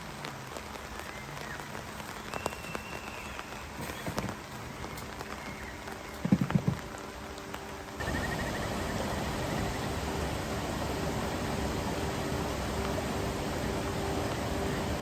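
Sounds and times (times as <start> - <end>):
rain drops pattering: 0.0 - 15.0.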